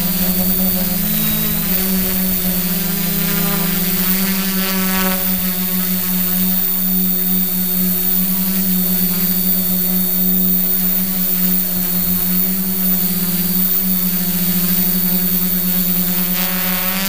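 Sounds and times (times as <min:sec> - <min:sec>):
quadcopter motors droning: 0:00.0 - 0:17.0.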